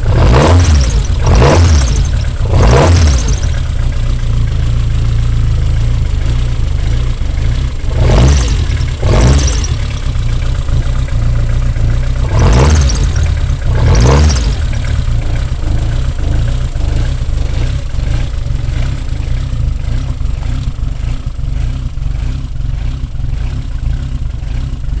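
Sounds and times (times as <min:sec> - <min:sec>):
car engine idling: 0:00.0 - 0:25.0
engine throttle blips: 0:00.0 - 0:25.0.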